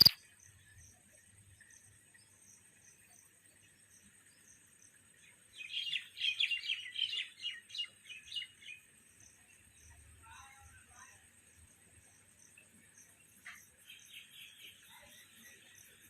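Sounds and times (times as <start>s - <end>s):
faint high insect drone: 0.0s - 16.0s.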